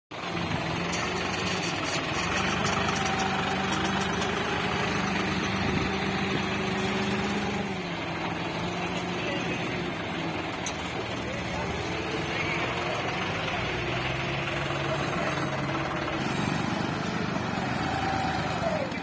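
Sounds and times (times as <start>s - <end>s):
tractor diesel engine running: 0.1s - 19.0s.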